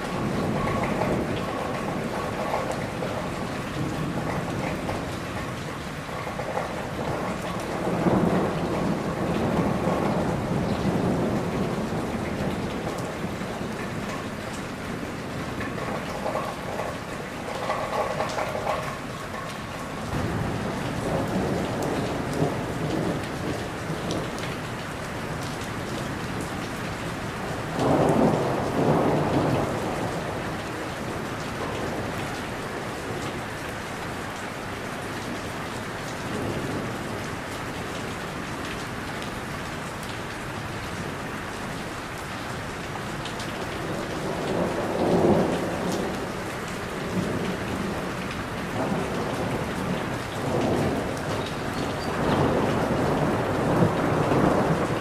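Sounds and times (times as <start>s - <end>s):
thunder rumbling: 0.0s - 33.6s, 43.2s - 55.0s
rain falling on leaves: 0.0s - 55.0s.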